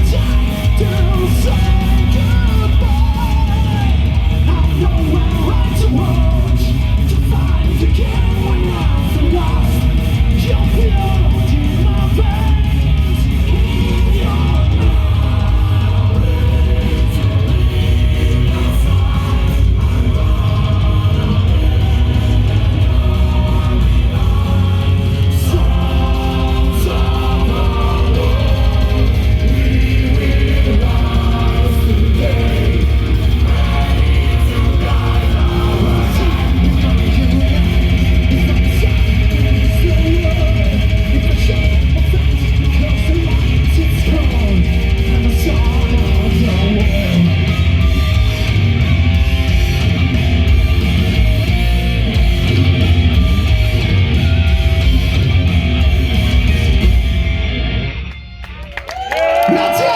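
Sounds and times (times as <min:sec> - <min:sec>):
dense drum beat: 0:00.0 - 0:57.6
loud electric guitars: 0:00.0 - 0:59.9.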